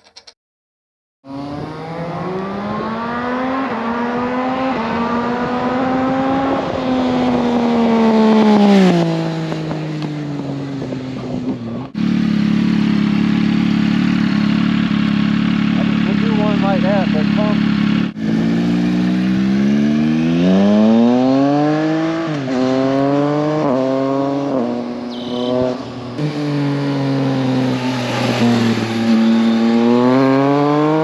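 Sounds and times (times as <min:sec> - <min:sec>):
engine running at steady speed: 0:01.3 - 0:31.0
motorcycle engine passing by: 0:01.3 - 0:31.0.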